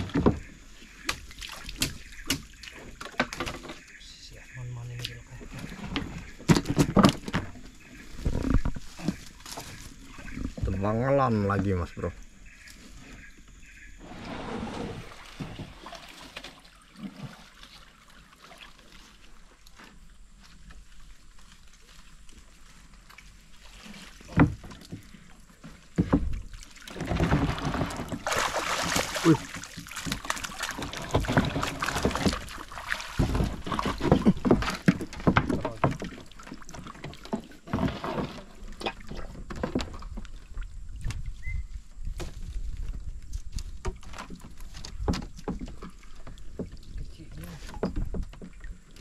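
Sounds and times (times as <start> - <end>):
water splashing and streaming: 0.0 - 49.0.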